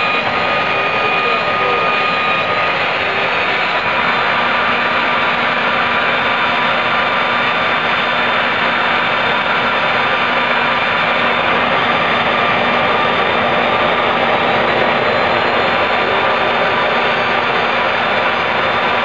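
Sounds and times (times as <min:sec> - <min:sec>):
jet engine rushing roar: 0:00.0 - 0:19.0
thin steady whine: 0:00.0 - 0:19.0.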